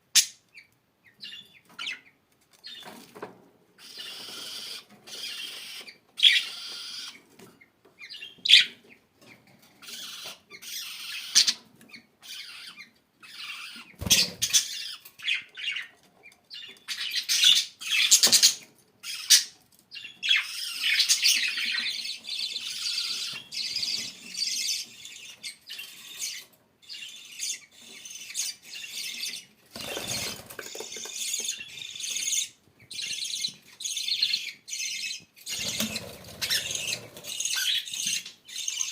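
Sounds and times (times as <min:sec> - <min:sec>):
budgerigars chirping and chattering: 0:00.1 - 0:38.9.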